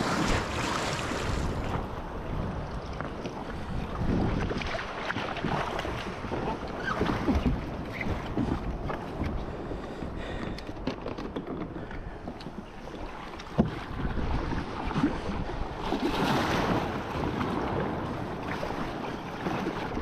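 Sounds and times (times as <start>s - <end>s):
water lapping against a kayak: 0.0s - 20.0s
wind rumbling on microphone: 0.0s - 20.0s.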